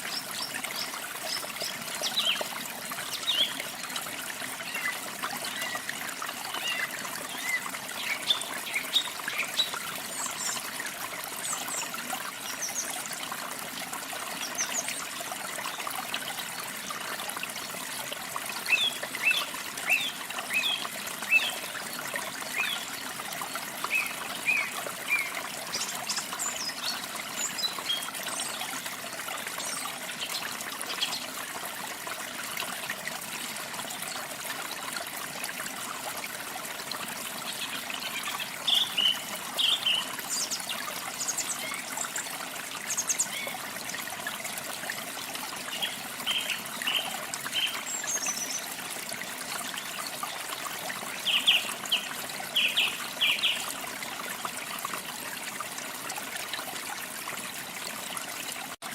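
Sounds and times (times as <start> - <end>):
trickle of running water: 0.0 - 58.9.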